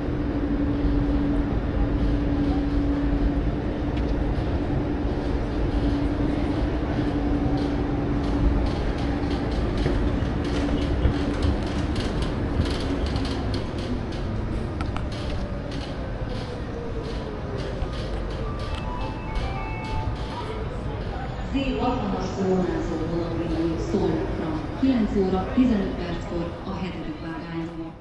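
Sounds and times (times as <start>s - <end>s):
standing train humming: 0.0s - 28.0s
station noise: 0.2s - 28.0s.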